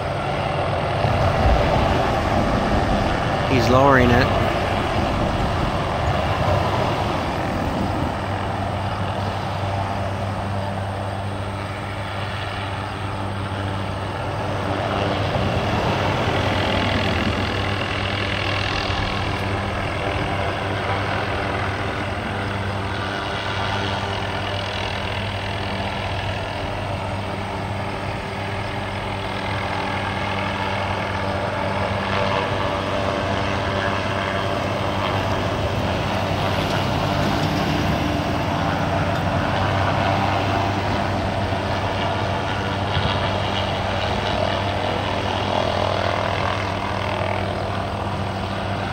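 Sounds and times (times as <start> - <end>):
helicopter hovering: 0.0 - 48.9.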